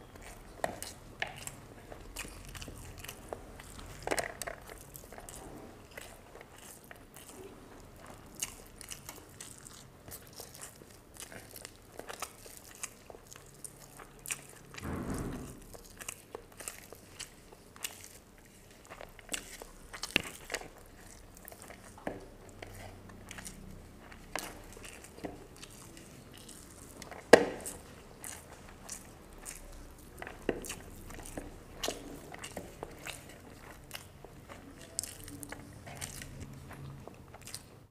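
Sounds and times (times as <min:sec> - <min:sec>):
chewing and crunching fried fish: 0:00.0 - 0:37.9.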